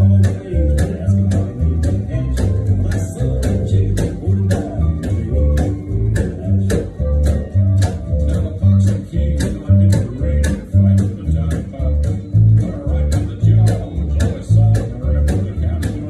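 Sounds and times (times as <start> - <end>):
guitar: 0.0 - 16.0
plucked upright bass line: 0.0 - 16.0.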